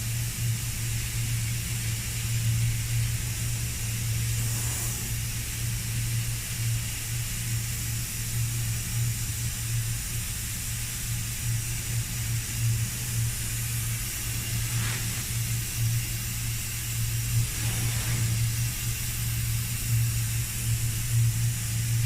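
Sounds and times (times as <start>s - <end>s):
constant hiss: 0.0s - 22.0s
low machine hum: 0.0s - 22.0s.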